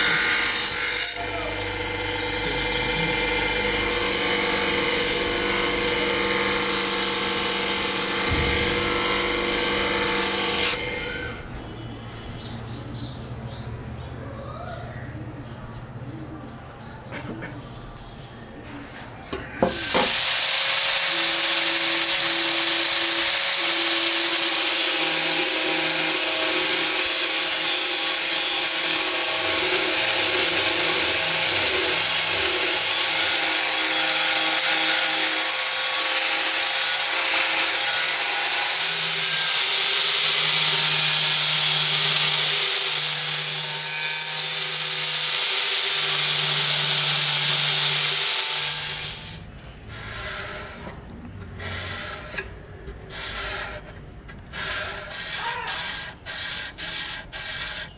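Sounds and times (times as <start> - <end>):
angle grinder grinding metal: 0.0 - 11.5, 19.6 - 57.9.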